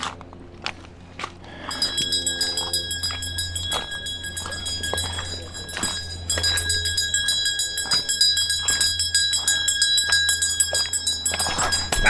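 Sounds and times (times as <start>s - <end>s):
bell ringing rapidly: 1.8s - 12.0s.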